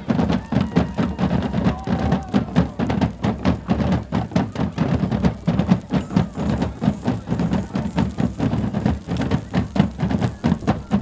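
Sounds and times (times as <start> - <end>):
deep drums beating fast: 0.0 - 11.0.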